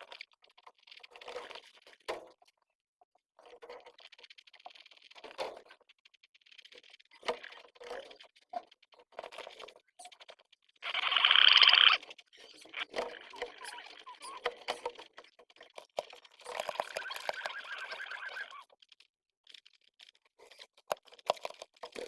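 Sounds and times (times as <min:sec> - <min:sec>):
pigeon chicks clicking and rustling: 0:00.0 - 0:02.6, 0:03.4 - 0:22.0.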